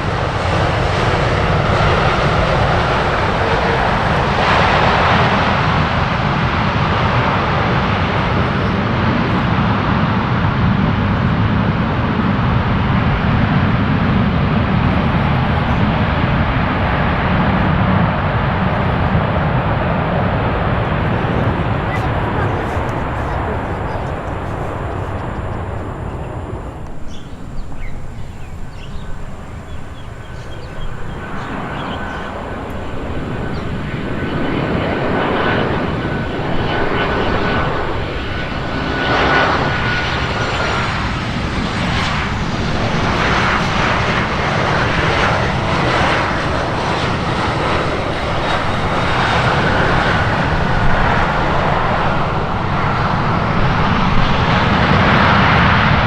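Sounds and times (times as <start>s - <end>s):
high jet engine whine: 0.0s - 56.0s
jet engines roaring: 0.0s - 56.0s.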